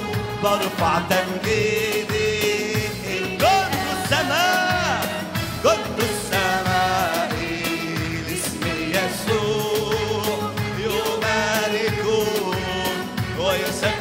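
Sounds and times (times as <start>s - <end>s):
keyboard with steady beat: 0.0s - 14.0s
man singing: 0.0s - 14.0s.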